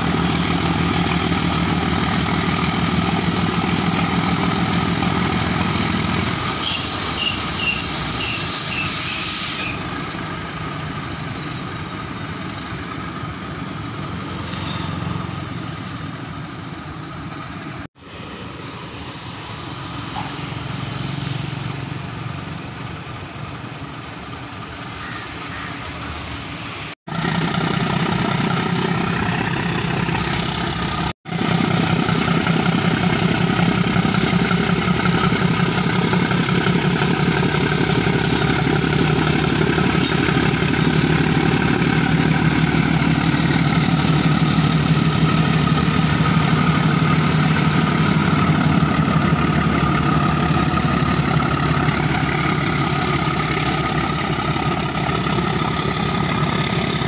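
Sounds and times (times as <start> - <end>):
diesel locomotive engine throbbing: 0.0 - 17.9, 18.7 - 57.0.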